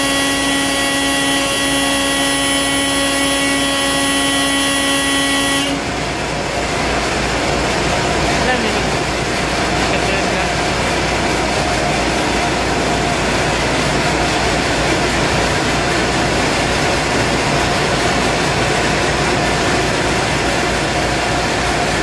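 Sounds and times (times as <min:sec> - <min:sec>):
industrial machinery noise: 0:00.0 - 0:22.0.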